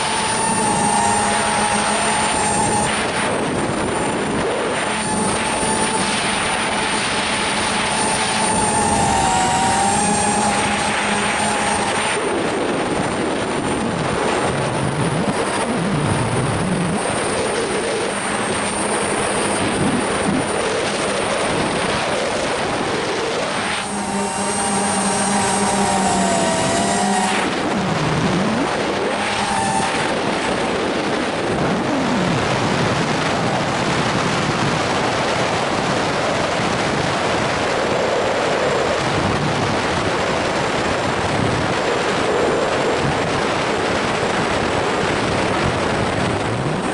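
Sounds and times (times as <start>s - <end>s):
motor and propeller whine: 0.0s - 46.9s
wind rushing over microphone: 0.0s - 46.9s.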